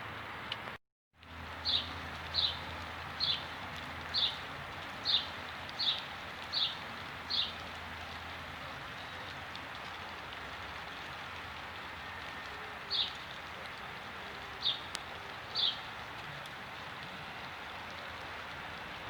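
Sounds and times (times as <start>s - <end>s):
soft rain hissing: 0.0s - 19.0s.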